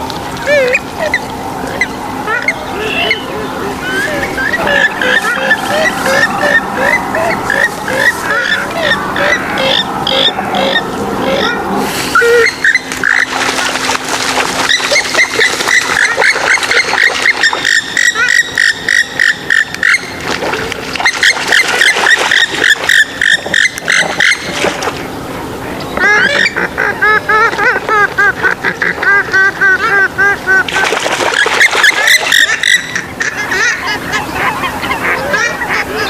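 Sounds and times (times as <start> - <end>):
waterbirds clucking and honking: 0.0 - 36.0.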